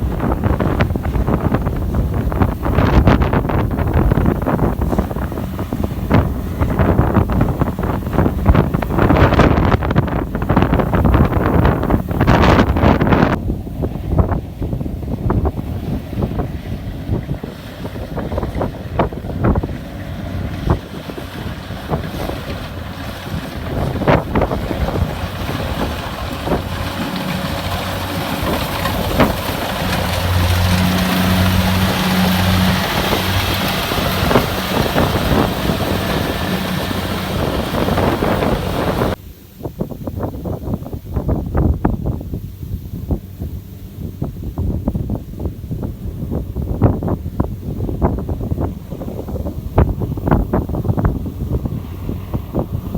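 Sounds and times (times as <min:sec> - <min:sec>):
combine harvester engine hum: 0:00.0 - 0:52.9
wind buffeting microphone: 0:00.0 - 0:52.9.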